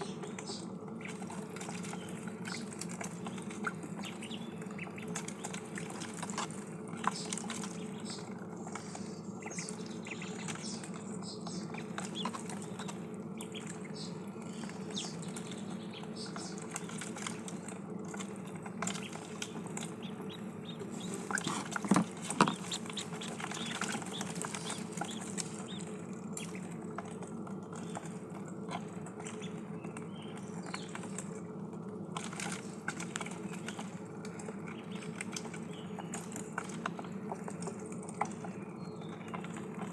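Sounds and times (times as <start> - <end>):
ducklings dabbling in water: 0.0 - 39.9
steady low hum: 0.0 - 39.9.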